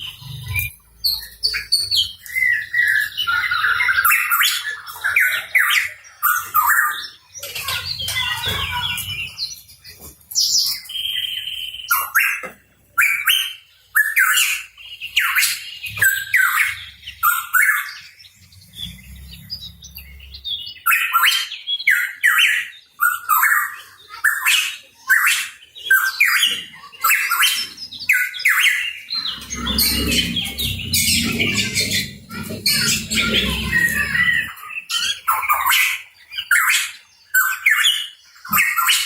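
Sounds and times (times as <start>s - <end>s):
bird chirping and squawking: 0.0s - 39.0s.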